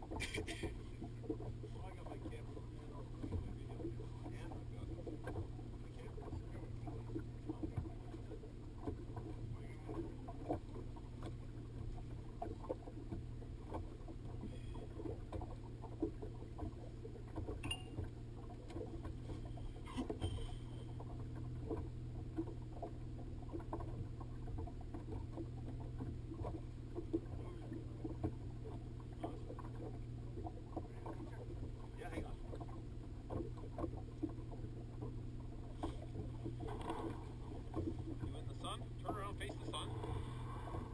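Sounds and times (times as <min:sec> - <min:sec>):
boat motor humming: 0:00.0 - 0:40.9
water lapping against hull: 0:00.0 - 0:40.9.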